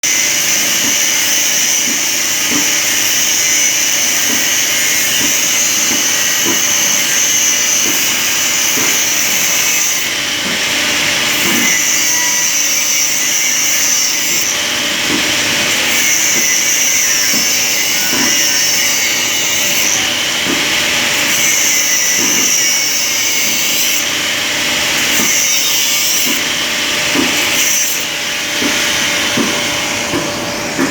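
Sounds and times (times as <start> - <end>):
angle grinder grinding metal: 0.0 - 30.9.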